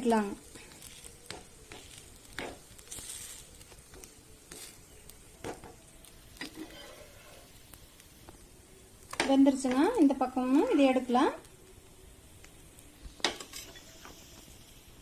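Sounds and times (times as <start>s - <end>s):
flatbread sizzling in oil: 0.0s - 15.0s.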